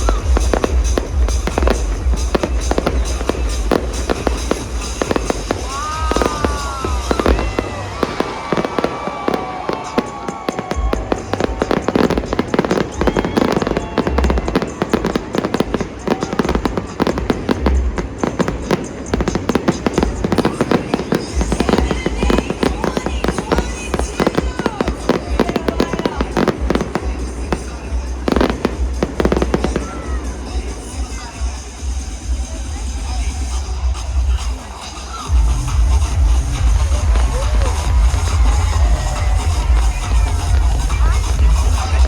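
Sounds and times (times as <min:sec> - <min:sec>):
fireworks crackling and popping: 0:00.0 - 0:42.0
fireworks deep booms: 0:00.0 - 0:42.0
whistling fireworks: 0:00.0 - 0:42.0.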